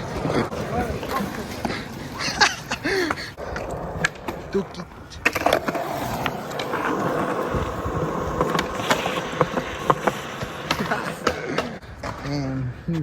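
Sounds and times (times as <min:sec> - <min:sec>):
skateboard clacks: 0:00.0 - 0:13.0
skateboard wheels rolling on pavement: 0:00.0 - 0:13.0.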